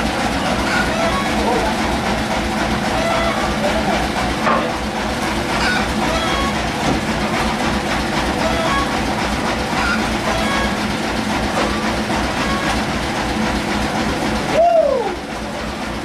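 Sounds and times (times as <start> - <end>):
machinery hum: 0.0 - 16.0
sawmill machinery clattering: 0.0 - 16.0.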